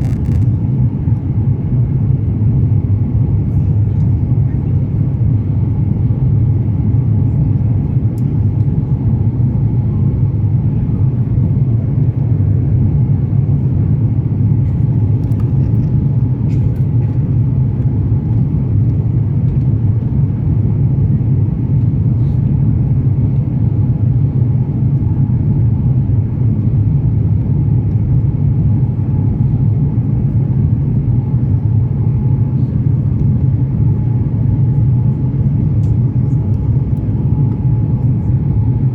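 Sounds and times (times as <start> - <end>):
airliner engines low rumble: 0.0 - 38.9.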